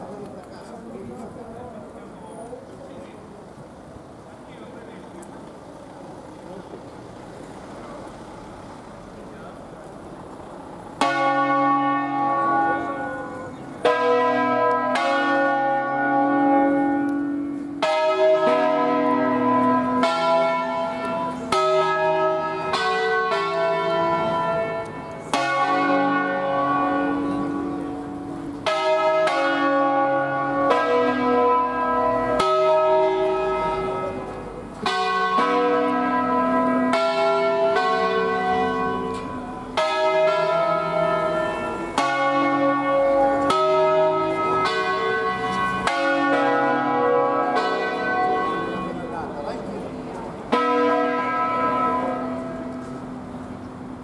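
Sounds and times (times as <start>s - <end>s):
church bells pealing: 9.2s - 54.0s.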